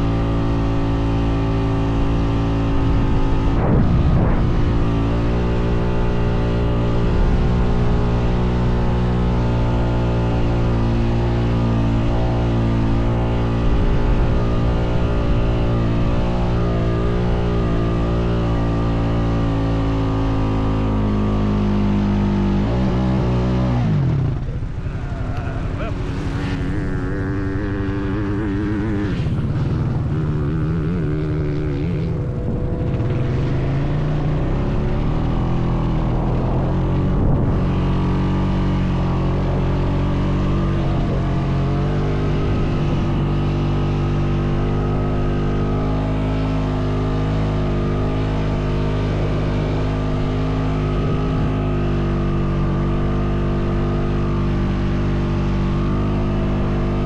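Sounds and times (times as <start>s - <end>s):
atv engine running under load: 0.0s - 57.0s.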